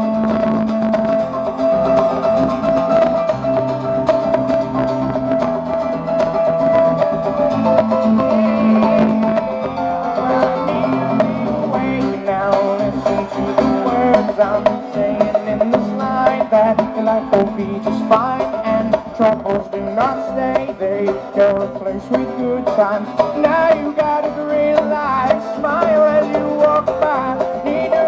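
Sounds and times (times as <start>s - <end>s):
acoustic guitar: 0.0s - 28.0s
drum kit: 0.0s - 28.0s
electric bass: 0.0s - 28.0s
hand drums: 0.0s - 28.0s.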